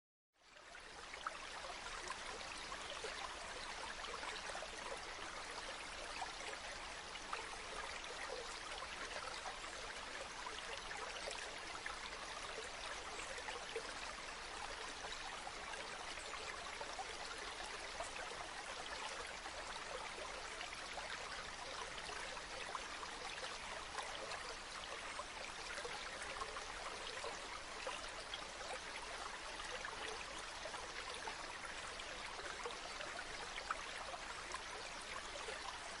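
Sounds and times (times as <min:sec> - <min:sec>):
stream flowing: 0:00.4 - 0:36.0.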